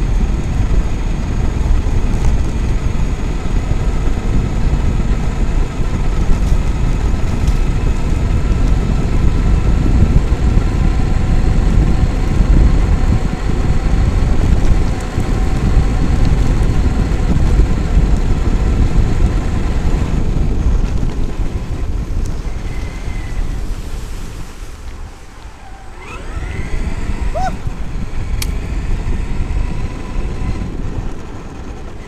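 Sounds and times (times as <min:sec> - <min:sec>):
electric motor whine: 0:00.0 - 0:32.0
wind and tyre rumble: 0:00.0 - 0:32.0.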